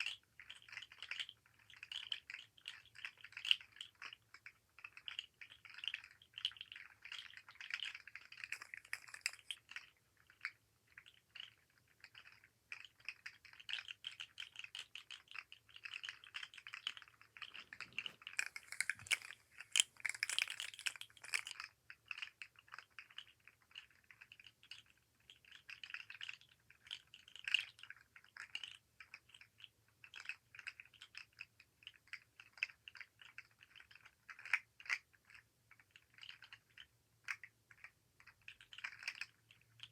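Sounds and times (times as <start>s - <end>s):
fidget toy clicking and rattling: 0.0s - 39.9s.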